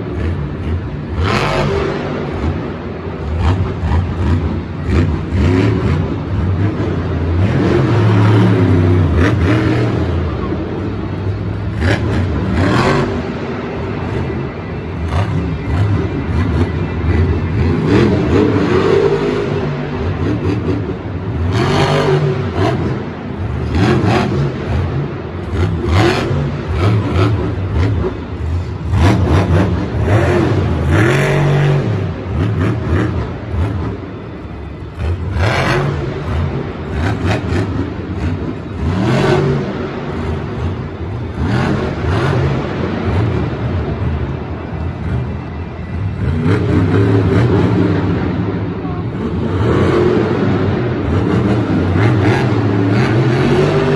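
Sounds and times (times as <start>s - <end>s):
monster truck engines revving: 0.0s - 53.9s.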